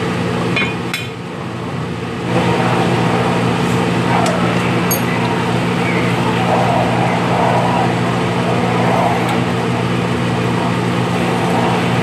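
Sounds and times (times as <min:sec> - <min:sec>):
motor humming: 0:01.2 - 0:12.0.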